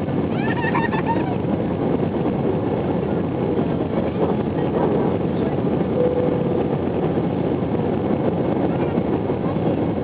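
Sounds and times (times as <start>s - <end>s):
jet engine and airflow rush: 0.0s - 10.0s.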